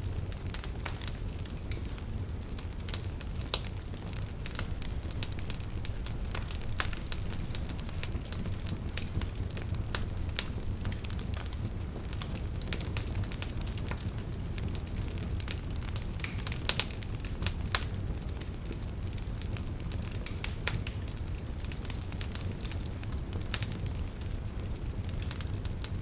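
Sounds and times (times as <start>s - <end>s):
campfire crackling and popping: 0.0s - 26.0s
low rumble of flame: 0.0s - 26.0s.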